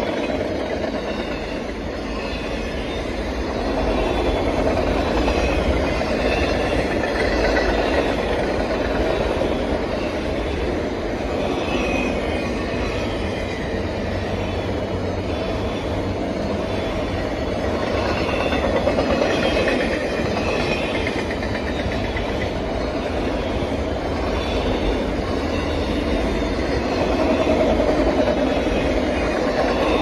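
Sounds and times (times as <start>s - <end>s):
freight train wheels on rails: 0.0s - 30.0s.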